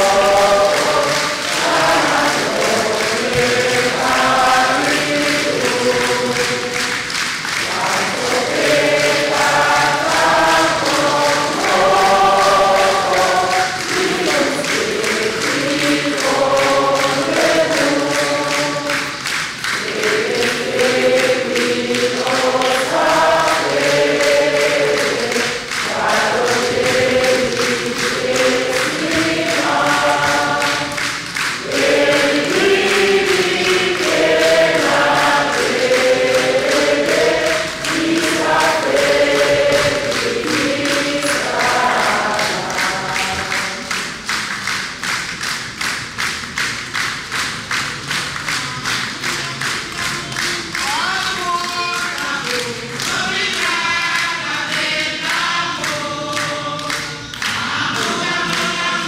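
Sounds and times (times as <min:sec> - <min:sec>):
crowd singing a hymn: 0:00.0 - 0:44.9, 0:48.6 - 0:59.0
hands clapping along: 0:00.0 - 0:59.0.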